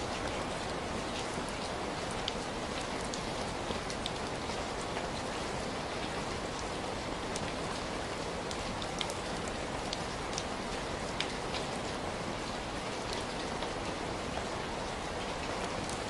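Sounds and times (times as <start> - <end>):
heavy rain falling: 0.0 - 16.0
raindrops ticking close by: 0.0 - 16.0.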